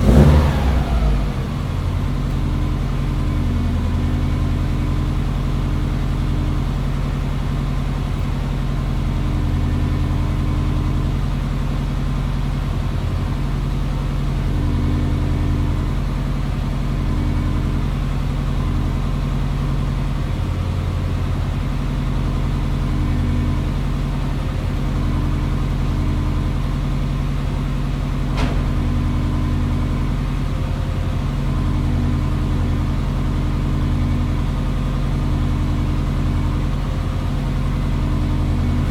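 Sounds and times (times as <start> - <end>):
car engine idling deep exhaust: 0.0 - 38.9.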